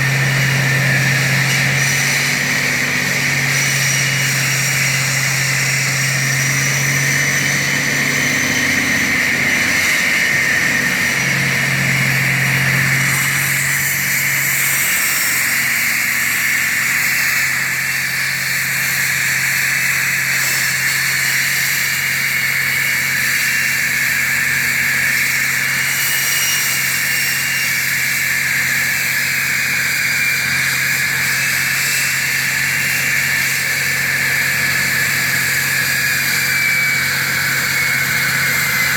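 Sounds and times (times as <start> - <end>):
floor saw cutting concrete: 0.0 - 38.9.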